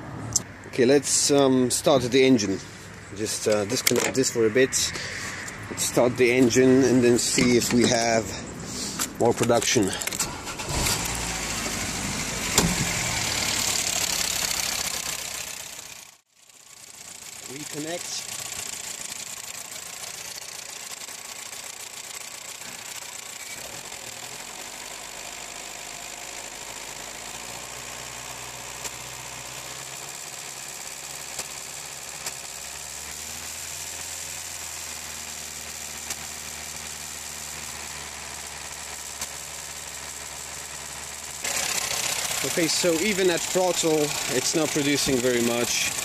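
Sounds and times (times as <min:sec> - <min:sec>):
petrol engine running: 0:02.4 - 0:46.0.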